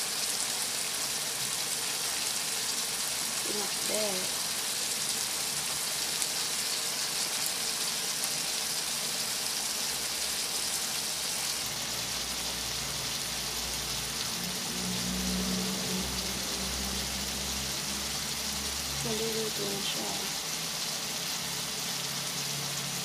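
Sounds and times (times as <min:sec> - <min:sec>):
vegetables simmering in a pan: 0:00.0 - 0:23.0.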